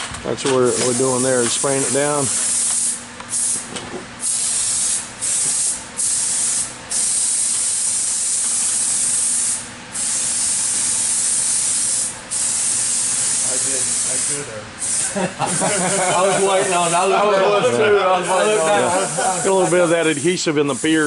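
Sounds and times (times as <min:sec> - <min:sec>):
adhesive sprayer hissing: 0:00.7 - 0:03.6, 0:04.2 - 0:21.0.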